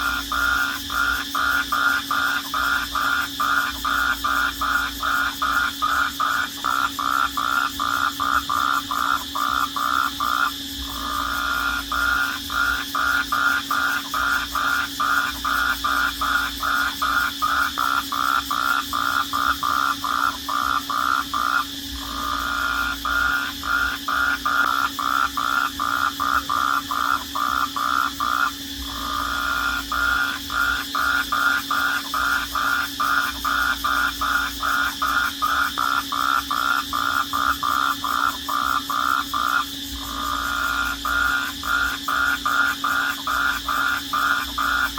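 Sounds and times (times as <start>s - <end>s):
high insect-like drone: 0.0s - 44.9s
rhythmic pulsed animal call: 0.0s - 44.9s.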